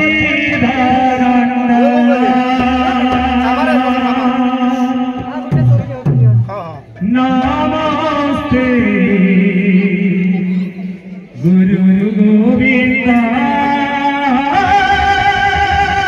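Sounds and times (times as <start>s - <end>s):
man chanting into microphone: 0.0s - 5.3s, 7.0s - 10.5s, 11.4s - 16.0s.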